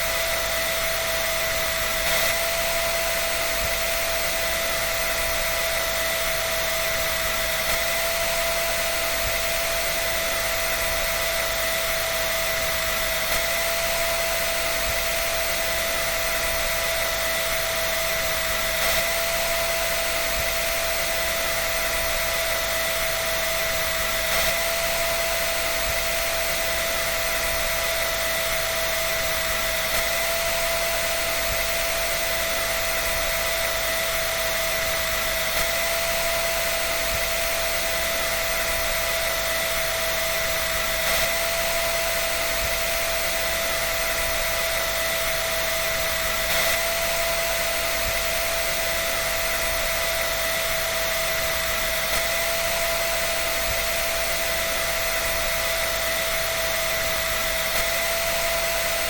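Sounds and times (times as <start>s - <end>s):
dryer blowing air: 0.0s - 59.0s
high motor whine: 0.0s - 59.0s.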